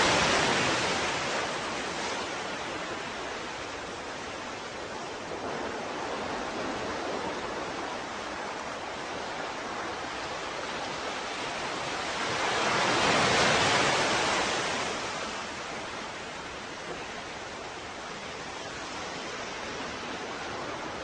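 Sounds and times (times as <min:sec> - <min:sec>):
ocean waves washing onto shore: 0:00.0 - 0:21.0.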